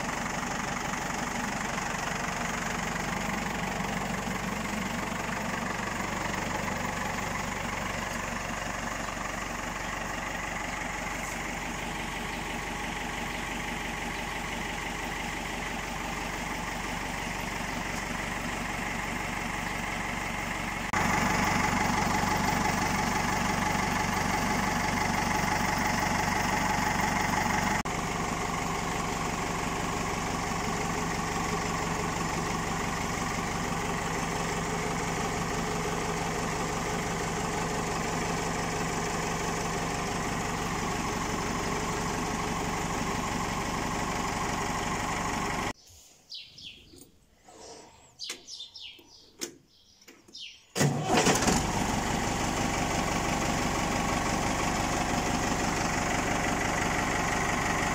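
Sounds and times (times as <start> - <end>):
tractor engine idling: 0.0 - 57.9.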